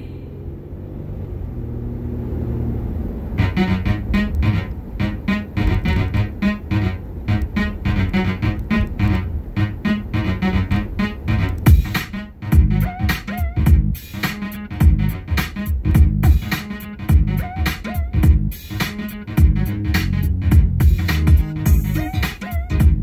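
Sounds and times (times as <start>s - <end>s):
low steady hum: 0.0s - 23.0s
pop music on car stereo: 2.9s - 23.0s.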